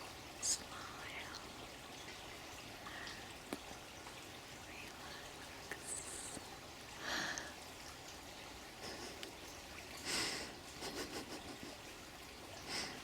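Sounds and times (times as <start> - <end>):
running water trickling: 0.0 - 13.0.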